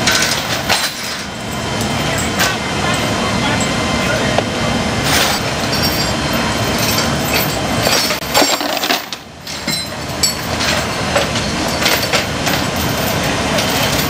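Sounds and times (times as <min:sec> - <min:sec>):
chains clanking on metal floor: 0:00.0 - 0:03.1, 0:05.1 - 0:14.0
loud steady background noise: 0:00.0 - 0:14.0.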